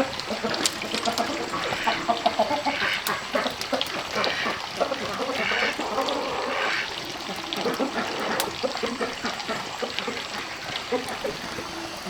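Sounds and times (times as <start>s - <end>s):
water trickling in a stream: 0.0s - 12.0s.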